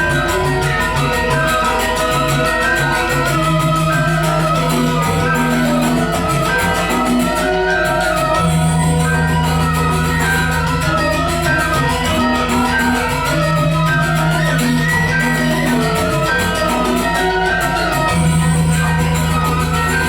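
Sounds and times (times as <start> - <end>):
gamelan ensemble playing: 0.0 - 20.0.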